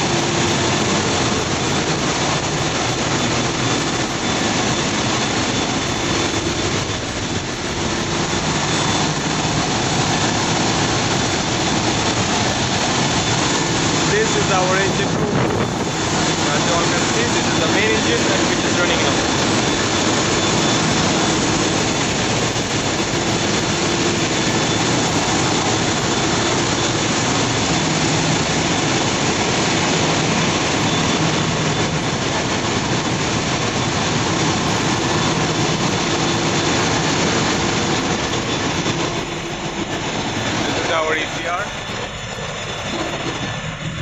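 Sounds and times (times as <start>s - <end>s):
engine room machinery din: 0.0s - 44.0s.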